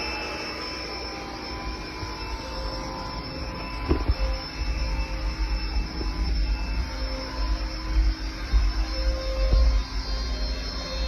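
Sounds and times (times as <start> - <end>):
motor running with whine: 0.0 - 11.0.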